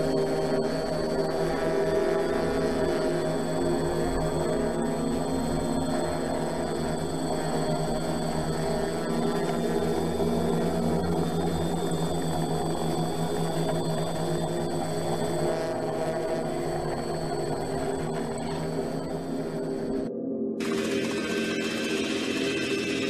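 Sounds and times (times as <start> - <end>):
steady drone of held tones: 0.0 - 23.0.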